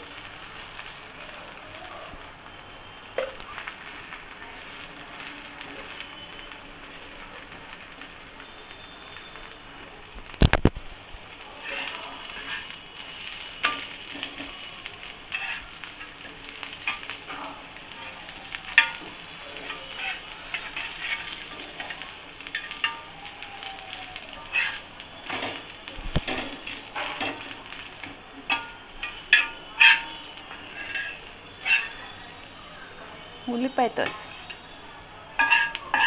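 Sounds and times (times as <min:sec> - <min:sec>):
dosa sizzling on a griddle: 0:00.0 - 0:36.0.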